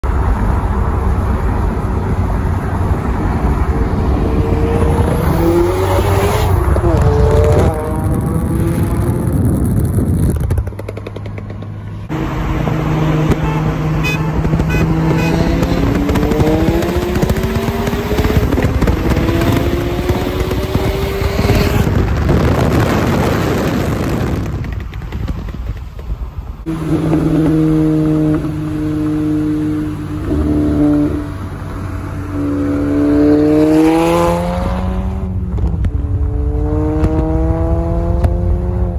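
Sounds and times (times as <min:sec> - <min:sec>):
wind and road noise: 0:00.0 - 0:38.9
car engine accelerating: 0:00.2 - 0:24.6, 0:26.6 - 0:38.9.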